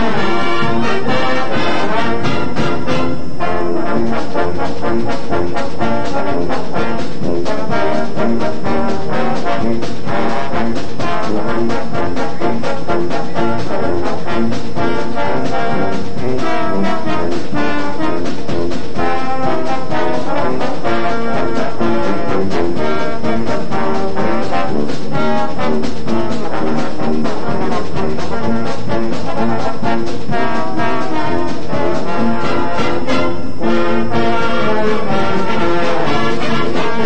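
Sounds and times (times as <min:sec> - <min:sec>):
marching band playing: 0:00.0 - 0:37.0
steady drum beat: 0:00.0 - 0:37.0
trombones and trumpets: 0:00.0 - 0:37.0.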